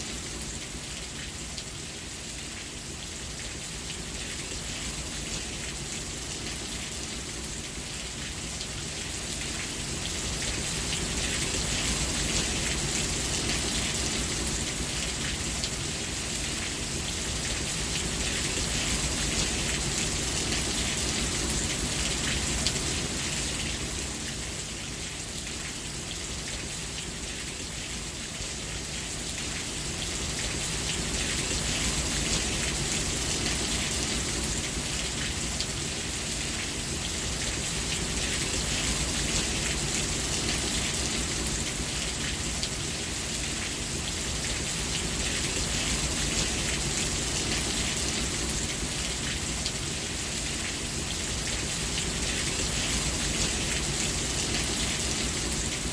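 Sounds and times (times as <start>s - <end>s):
rain falling: 0.0s - 55.9s.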